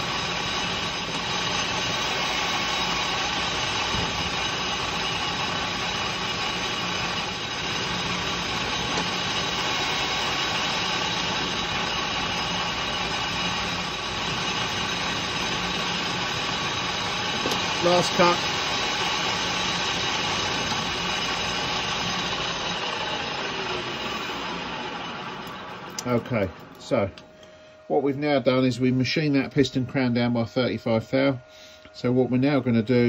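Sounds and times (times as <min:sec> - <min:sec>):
metal lathe running: 0:00.0 - 0:27.2
spindle drive whine: 0:00.0 - 0:33.0.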